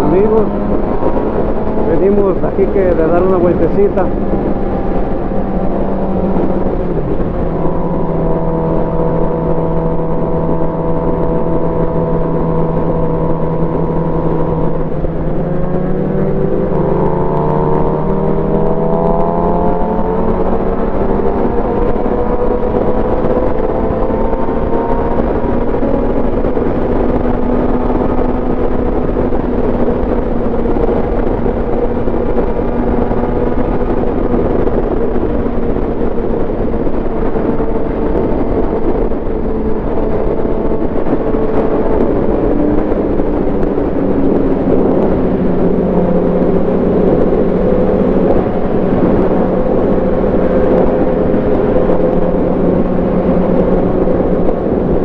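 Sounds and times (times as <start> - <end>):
motorcycle engine cruising: 0.0 - 55.0
wind rushing: 0.0 - 55.0.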